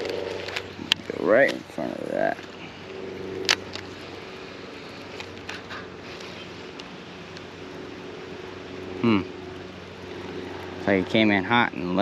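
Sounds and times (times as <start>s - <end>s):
electric motor humming: 0.0s - 12.0s.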